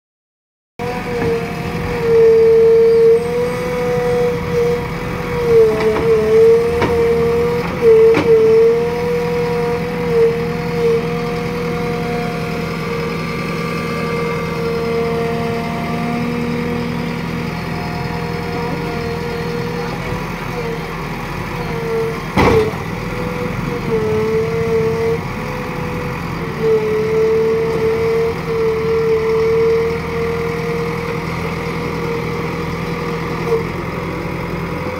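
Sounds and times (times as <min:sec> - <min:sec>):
diesel engine running: 0:00.8 - 0:34.9.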